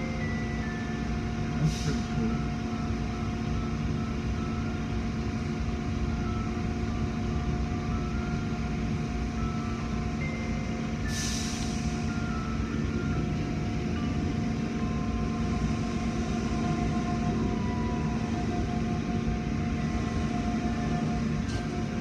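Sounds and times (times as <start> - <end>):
car wash machinery hum and rumble: 0.0 - 22.0.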